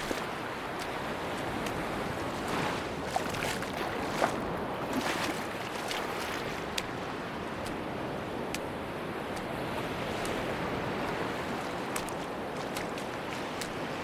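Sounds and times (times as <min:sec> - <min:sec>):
short sharp clicks and splashes: 0:00.0 - 0:07.0, 0:09.4 - 0:13.8
surf washing on a beach: 0:00.0 - 0:14.0.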